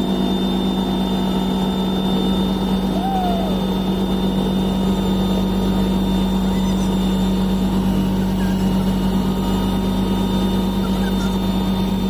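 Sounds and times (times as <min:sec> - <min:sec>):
faint high whining tones: 0:00.0 - 0:12.0
helicopter drone inside cabin: 0:00.0 - 0:12.0.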